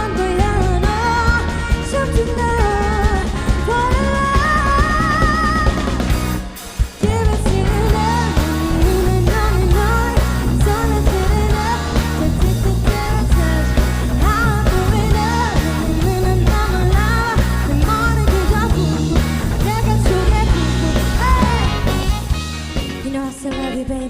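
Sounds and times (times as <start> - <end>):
person singing: 0.0 - 22.2, 22.9 - 24.0
loud backing music with beat: 0.0 - 23.7.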